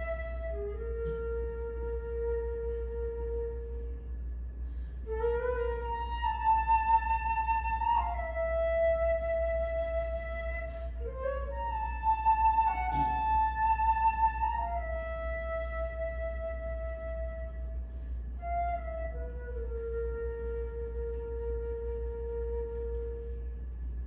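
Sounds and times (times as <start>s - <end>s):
solo flute: 0.0s - 24.0s
steady low hum: 0.0s - 24.0s.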